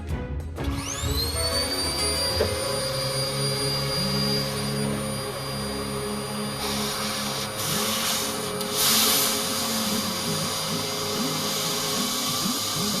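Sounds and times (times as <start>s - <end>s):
vacuum cleaner running: 0.6s - 13.0s.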